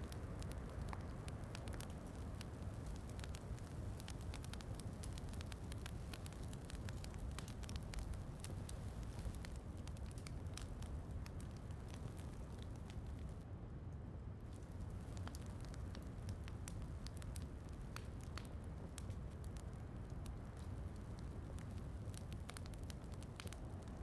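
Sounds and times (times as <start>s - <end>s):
fireplace crackling and popping: 0.0s - 13.5s, 14.4s - 24.0s.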